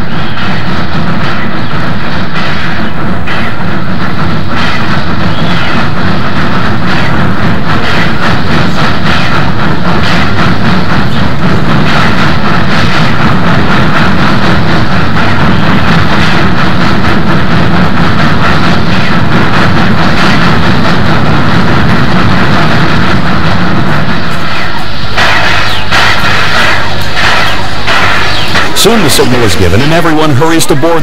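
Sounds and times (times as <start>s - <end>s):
running gear and rail noise: 0.0s - 31.0s
steam locomotive exhaust chuffs: 0.0s - 31.0s.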